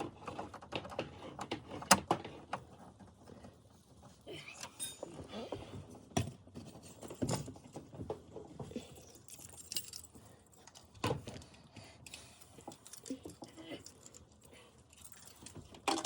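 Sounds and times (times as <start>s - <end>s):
plastic parts clicking and rattling: 0.0s - 3.5s, 6.2s - 16.0s.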